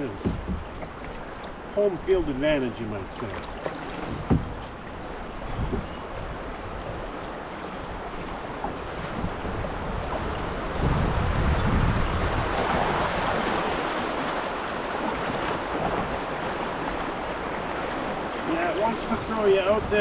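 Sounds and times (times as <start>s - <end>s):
wind buffeting microphone: 0.0s - 1.4s, 3.2s - 20.0s
water rushing in river rapid: 0.0s - 20.0s.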